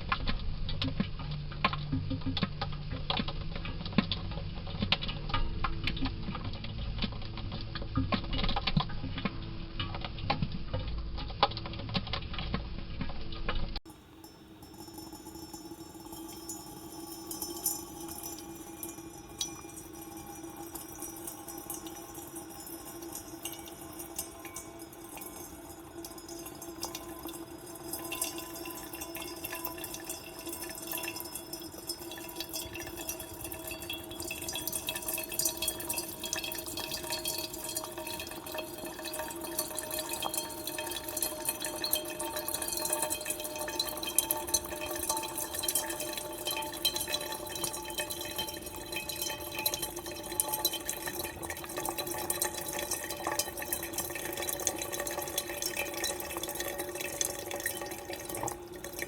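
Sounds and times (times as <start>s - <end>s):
coffee maker brewing: 0.0s - 59.0s.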